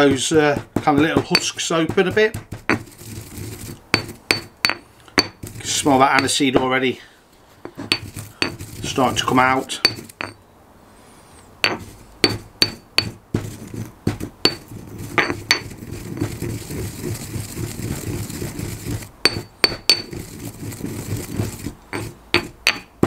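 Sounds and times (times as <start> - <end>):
pestle grinding seeds: 0.0 - 6.6, 7.6 - 10.4, 11.6 - 23.0
stone pestle knocking in mortar: 0.0 - 6.7, 7.7 - 10.4, 11.6 - 23.0.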